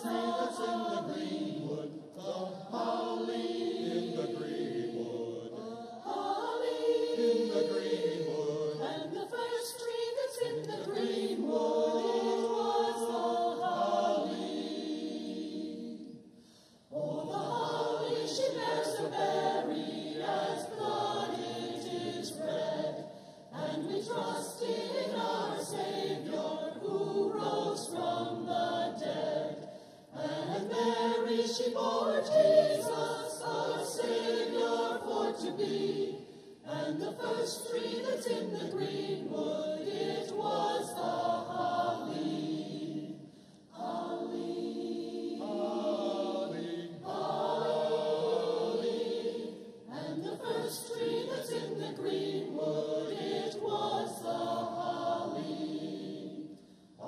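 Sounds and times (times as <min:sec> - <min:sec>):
church choir singing a carol: 0:00.0 - 0:57.0.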